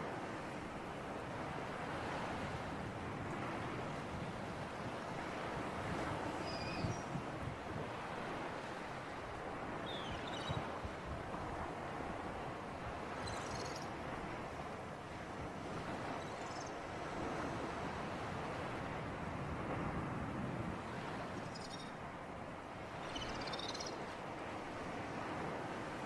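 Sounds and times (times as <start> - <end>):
sea breeze and surf: 0.0 - 26.0.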